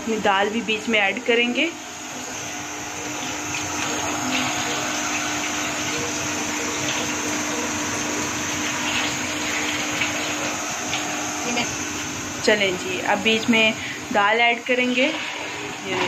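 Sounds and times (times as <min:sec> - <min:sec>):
masala sizzling and bubbling: 0:00.0 - 0:16.0.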